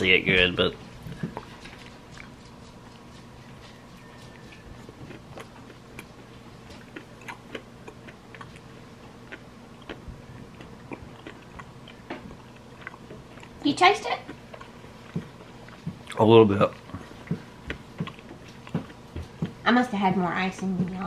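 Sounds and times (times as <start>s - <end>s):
low room hum: 0.0s - 21.0s
person chewing with wet smacks: 0.2s - 19.6s.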